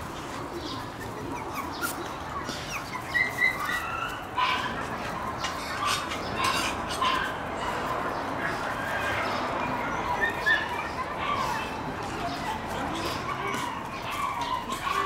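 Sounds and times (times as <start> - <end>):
puppies yipping and squeaking: 0.0 - 15.0.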